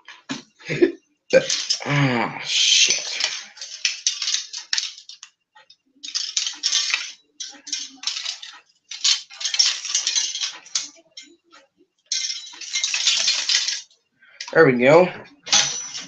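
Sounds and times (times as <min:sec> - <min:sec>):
fishing tackle clattering: 0:00.0 - 0:14.7, 0:15.3 - 0:16.0.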